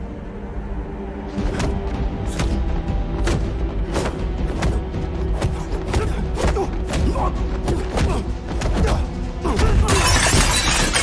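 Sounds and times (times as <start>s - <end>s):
tense film score: 0.0s - 11.0s.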